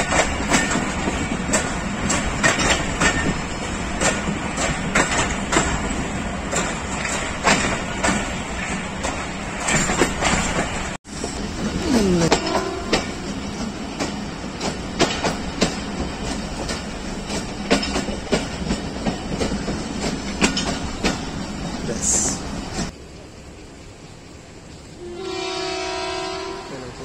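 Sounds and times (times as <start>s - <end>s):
wheels clicking over rail joints: 0.0s - 22.9s
train rumble on track: 0.0s - 27.0s.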